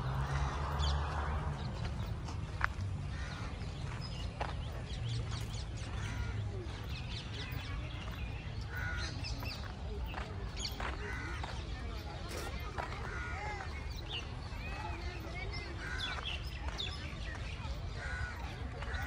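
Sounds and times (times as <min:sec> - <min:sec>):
birds chirping and calling: 0:00.1 - 0:19.0.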